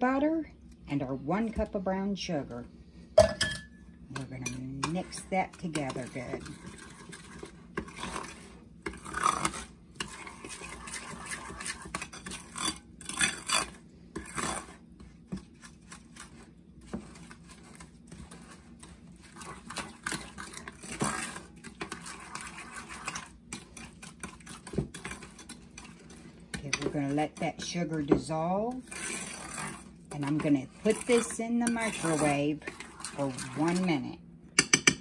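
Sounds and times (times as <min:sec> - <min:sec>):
utensil scraping ceramic bowl: 0:04.1 - 0:35.0.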